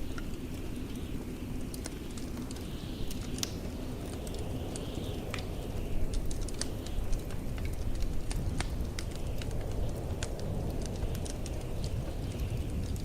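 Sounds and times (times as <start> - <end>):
blizzard wind rumble: 0.0 - 13.0
wood fire crackling: 0.0 - 13.0.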